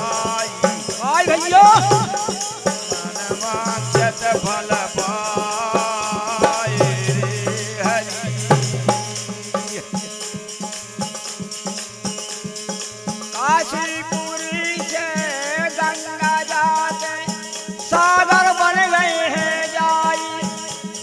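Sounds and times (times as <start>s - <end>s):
rattling percussion beat: 0.0s - 21.0s.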